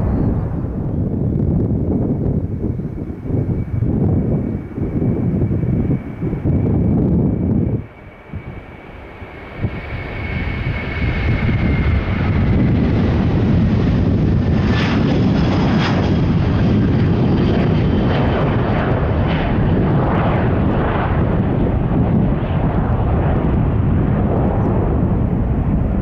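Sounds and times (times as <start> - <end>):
jet airliner engine rumble: 0.0 - 26.0.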